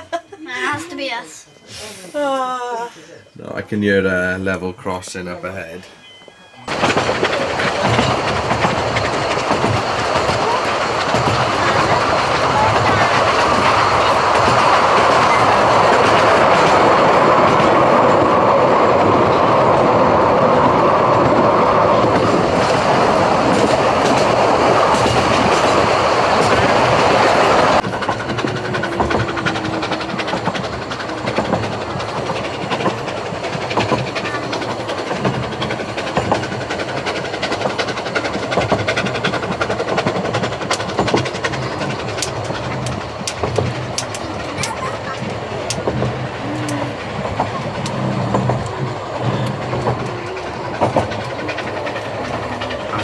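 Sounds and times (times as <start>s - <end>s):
rushing noise of moving train: 3.3s - 53.0s
wheels clacking over rail joints: 6.7s - 53.0s.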